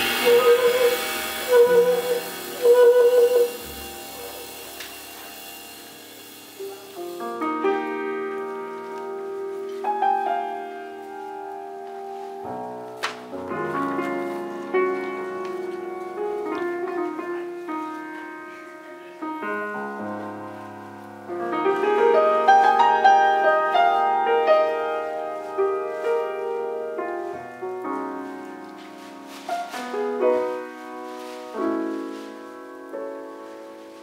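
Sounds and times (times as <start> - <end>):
jazz piano chords: 0.0 - 34.0.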